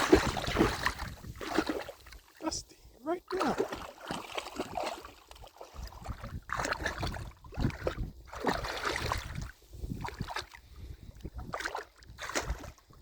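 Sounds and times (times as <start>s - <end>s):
shallow water sloshing and splashing: 0.0s - 2.5s, 3.2s - 13.0s.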